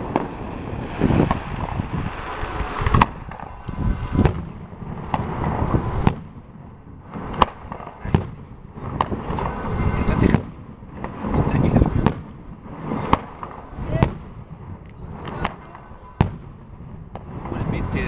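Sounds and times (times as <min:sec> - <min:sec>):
fireworks banging: 0:00.0 - 0:18.0
fireworks crackling: 0:00.0 - 0:18.0.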